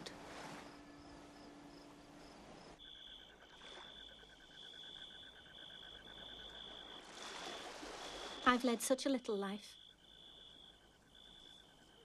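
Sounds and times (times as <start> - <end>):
faint crickets chirping: 0.0 - 12.0.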